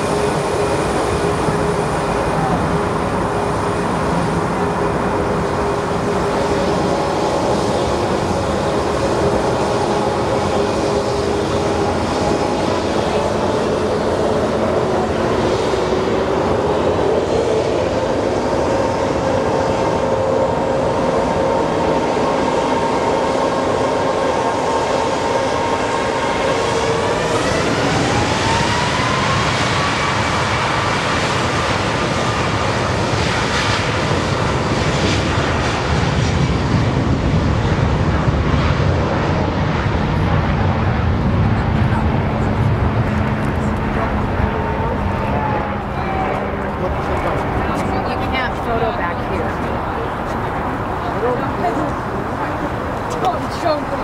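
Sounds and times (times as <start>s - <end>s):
jet engines whining: 0.0s - 54.0s
jet roar with rumble: 0.0s - 54.0s.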